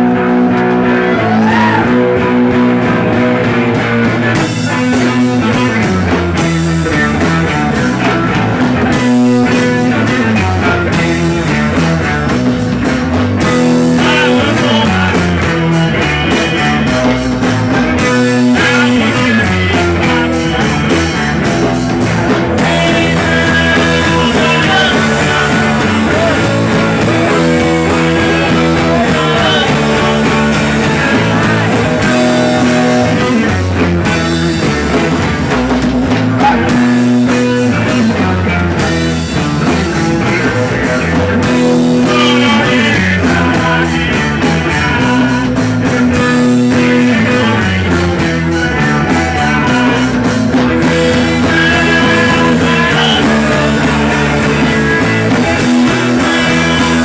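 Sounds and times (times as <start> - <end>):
drums: 0.0 - 57.0
electric guitar: 0.0 - 57.0
live rock band playing: 0.0 - 57.0.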